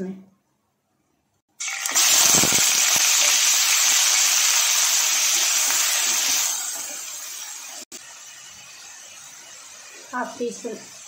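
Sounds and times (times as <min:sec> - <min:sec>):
onion sizzling in hot oil: 0:01.6 - 0:11.0.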